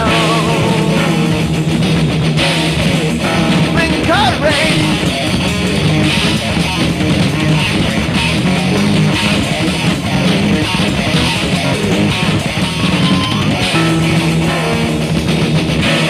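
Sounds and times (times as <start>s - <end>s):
bass guitar: 0.0s - 16.0s
electric guitar strumming: 0.0s - 16.0s
sliding lead guitar note: 0.0s - 16.0s.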